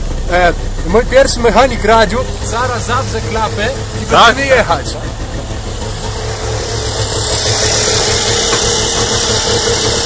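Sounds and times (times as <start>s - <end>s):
two-stroke engine idling: 0.0s - 10.0s.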